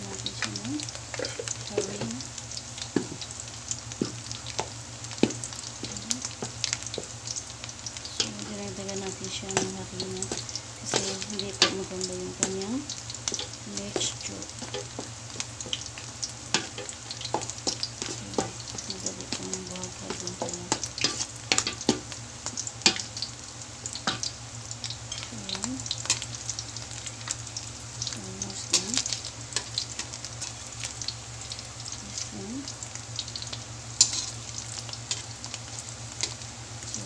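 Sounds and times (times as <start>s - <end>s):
frying oil sizzling: 0.0s - 37.0s
oil crackling and popping: 0.1s - 37.0s.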